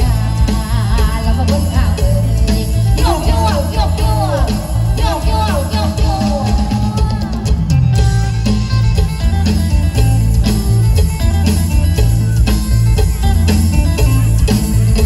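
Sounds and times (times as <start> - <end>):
bass and drum beat: 0.0 - 15.0.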